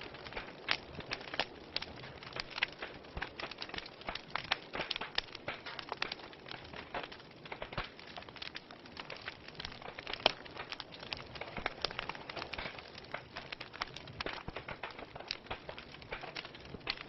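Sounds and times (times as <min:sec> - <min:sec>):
wood logs crackling in fireplace: 0:00.0 - 0:17.0.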